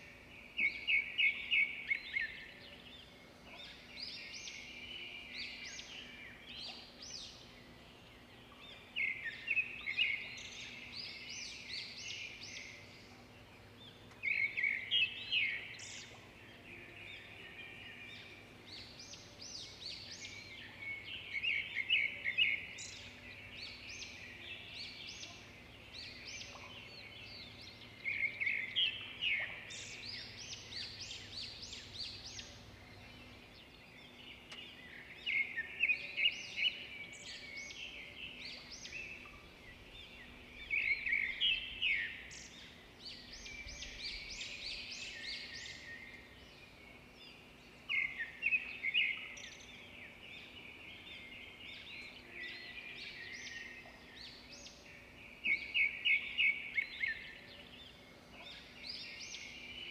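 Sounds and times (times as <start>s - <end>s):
birds chirping and trilling: 0.0s - 59.9s
faint steady hum: 0.0s - 59.9s.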